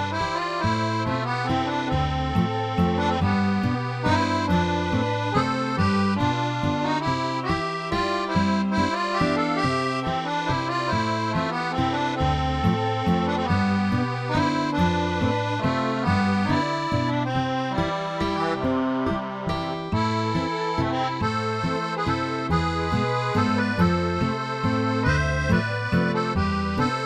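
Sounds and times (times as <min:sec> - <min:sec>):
background music with bass line: 0:00.0 - 0:27.0.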